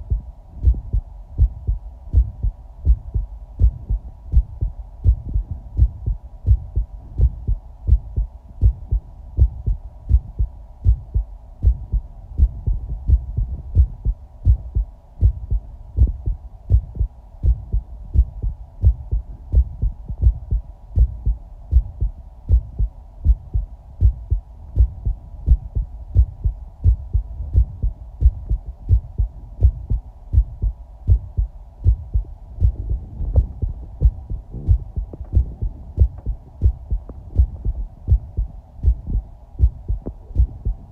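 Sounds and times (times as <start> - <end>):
faint hum: 0.0 - 40.9
heartbeat thumps: 0.0 - 40.9.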